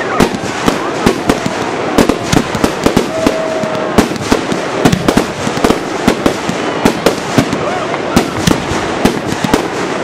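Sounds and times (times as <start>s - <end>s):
firework whistle: 0.0s - 10.0s
fireworks bangs: 0.0s - 10.0s
fireworks crackle: 0.0s - 10.0s.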